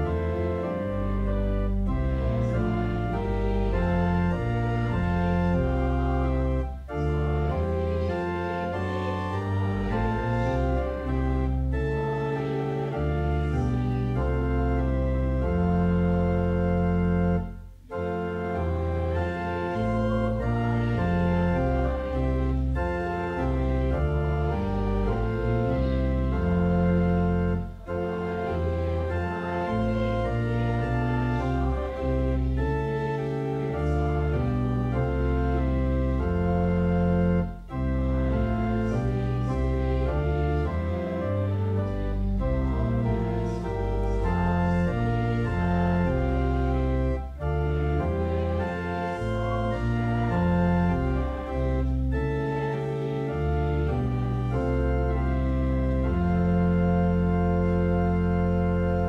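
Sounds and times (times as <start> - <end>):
pipe organ playing hymn: 0.0 - 59.0.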